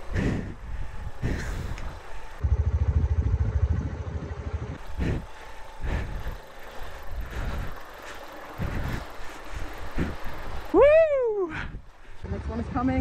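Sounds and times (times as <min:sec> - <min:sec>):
motorcycle engine low revs: 0:00.0 - 0:10.7.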